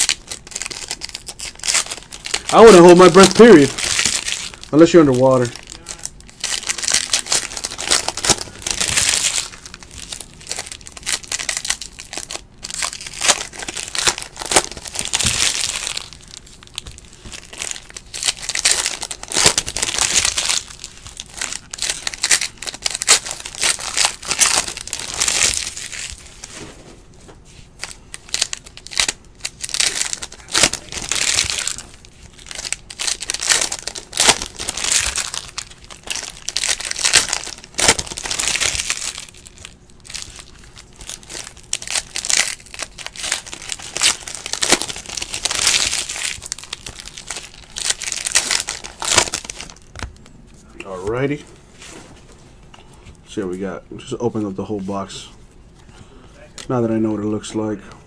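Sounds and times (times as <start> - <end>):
foil wrappers tearing and crinkling: 0.0 - 26.7, 27.7 - 50.2.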